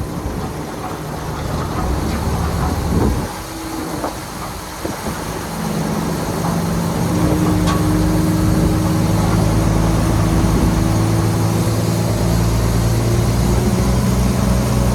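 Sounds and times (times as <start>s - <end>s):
heavy diesel engine running: 0.0s - 14.9s.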